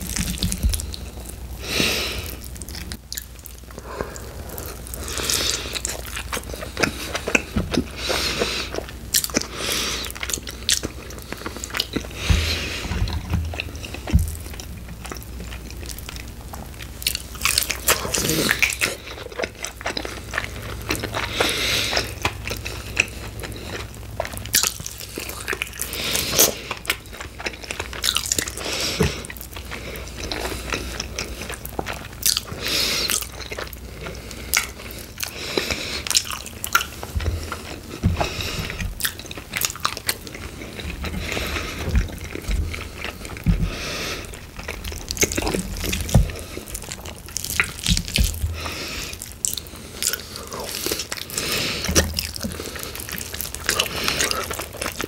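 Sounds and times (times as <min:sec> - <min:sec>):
biting and chewing crunches: 0:00.0 - 0:55.0
wet mouth sounds: 0:00.0 - 0:55.0.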